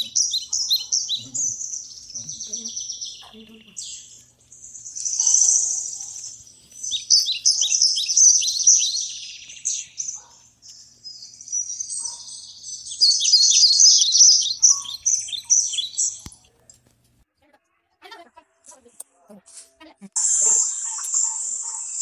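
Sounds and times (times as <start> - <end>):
songbirds chirping: 0.0 - 17.3, 20.2 - 22.0.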